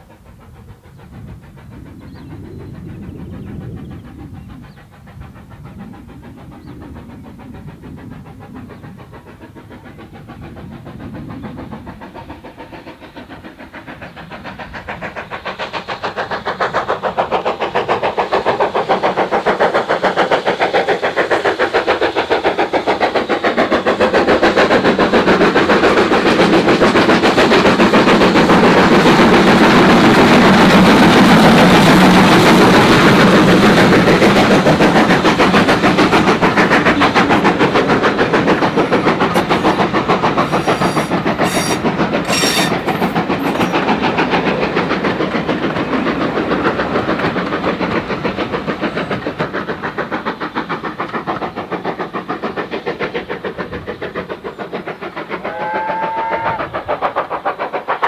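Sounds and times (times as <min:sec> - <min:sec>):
steam locomotive exhaust beats: 0:00.0 - 0:58.0
train wheels clicking over rail joints: 0:00.0 - 0:58.0.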